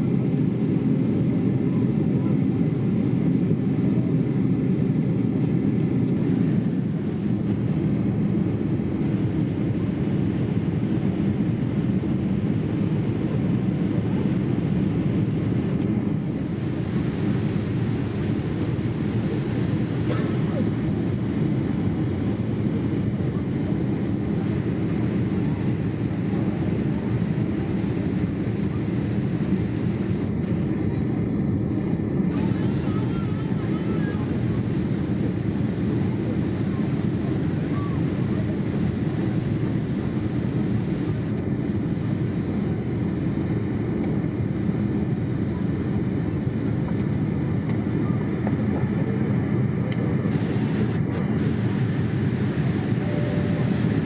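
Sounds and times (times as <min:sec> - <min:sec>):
airliner cabin noise: 0:00.0 - 0:54.0.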